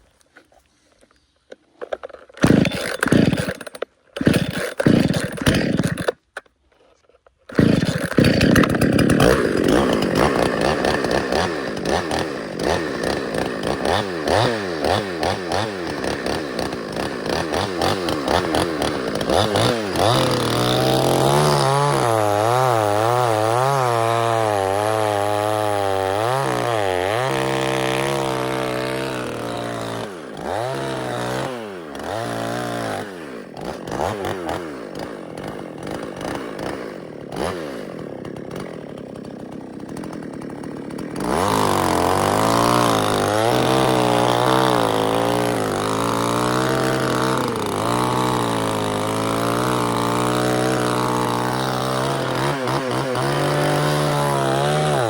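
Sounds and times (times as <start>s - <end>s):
chainsaw engine revving: 1.8s - 6.5s, 7.5s - 55.0s.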